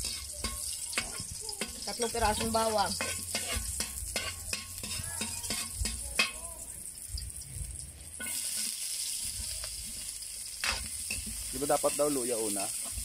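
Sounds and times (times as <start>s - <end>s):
metal spatula scraping wok: 0.0s - 6.6s, 8.1s - 13.0s
garlic sizzling in oil: 0.0s - 13.0s.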